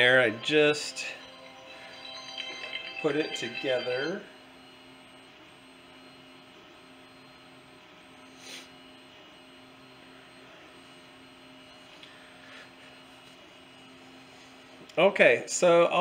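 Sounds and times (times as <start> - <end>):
faint electrical hum and whine: 0.0 - 16.0.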